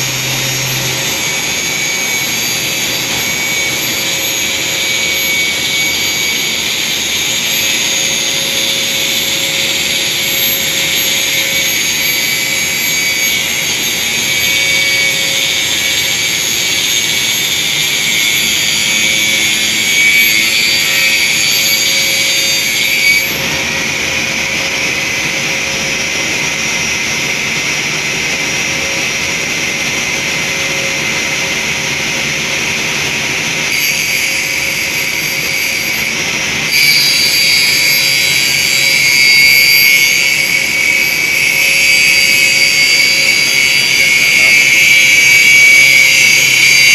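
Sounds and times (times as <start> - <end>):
angle grinder whine: 0.0 - 46.9.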